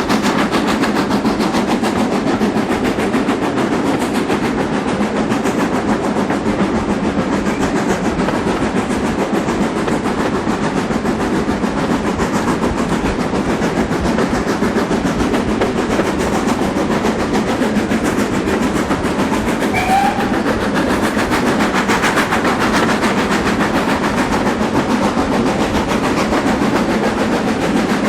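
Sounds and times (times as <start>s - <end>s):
train wheels clattering on rail: 0.0s - 28.0s.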